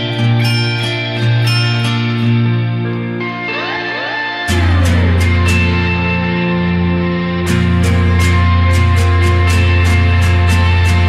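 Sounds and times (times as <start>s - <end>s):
instrumental music with bass and beat: 0.0s - 11.0s.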